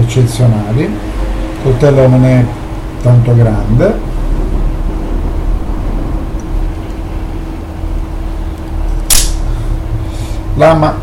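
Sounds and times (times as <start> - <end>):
faint hum: 0.0 - 11.0
low rumble: 0.8 - 10.1.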